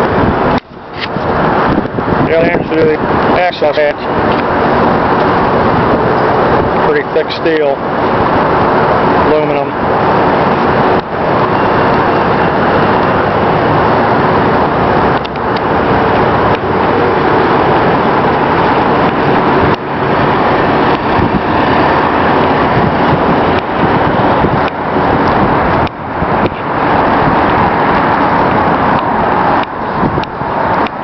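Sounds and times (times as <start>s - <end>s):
air-handling equipment roaring: 0.0s - 31.0s.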